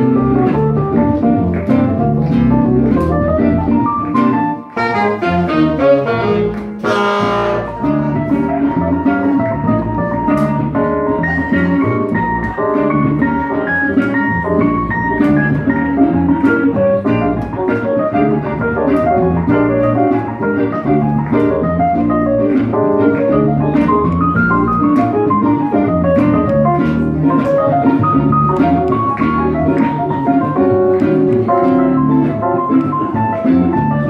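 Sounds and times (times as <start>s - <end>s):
double bass: 0.0s - 34.0s.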